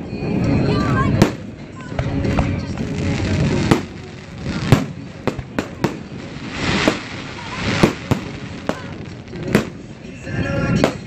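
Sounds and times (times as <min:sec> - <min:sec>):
fireworks crackling fizz: 0:00.0 - 0:11.0
fireworks bangs: 0:01.1 - 0:11.0.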